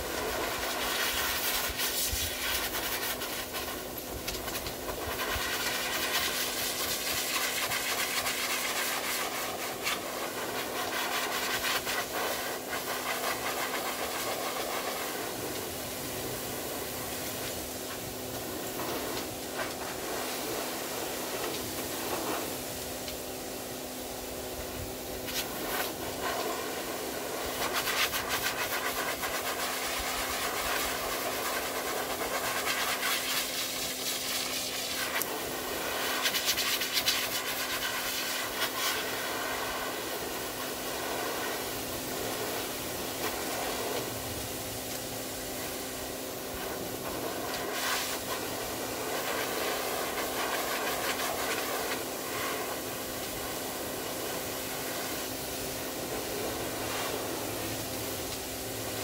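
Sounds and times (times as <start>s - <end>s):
blower motor hum: 0.0s - 59.0s
grooming blower air rush: 0.0s - 59.0s.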